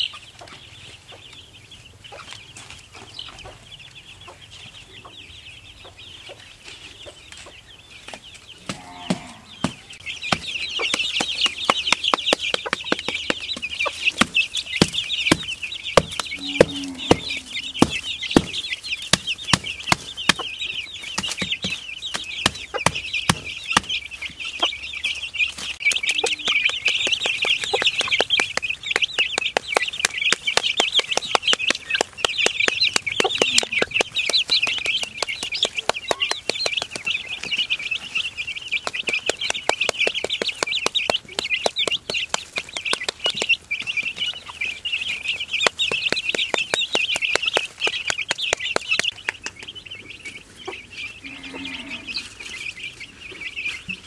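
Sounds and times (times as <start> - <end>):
beaks pecking at soil: 0.0 - 54.0
chicks peeping: 0.0 - 54.0.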